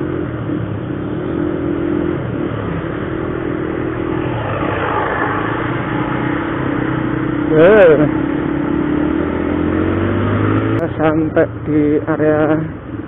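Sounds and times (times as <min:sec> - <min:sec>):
motorcycle engine hum: 0:00.0 - 0:13.0
wind and road noise: 0:00.0 - 0:13.0.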